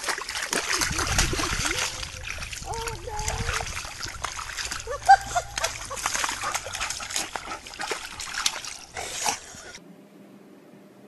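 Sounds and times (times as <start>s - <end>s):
dog splashing in mud: 0.0s - 9.8s.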